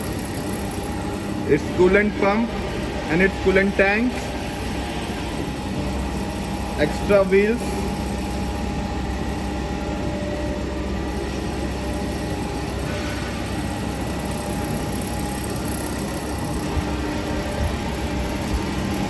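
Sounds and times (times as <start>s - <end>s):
surface grinder humming: 0.0s - 19.0s.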